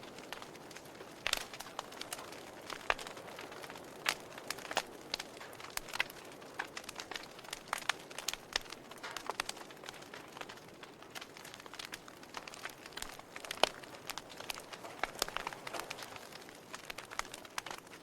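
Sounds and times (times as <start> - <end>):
low steady hiss: 0.0 - 18.0
wood fire crackling: 0.0 - 18.0.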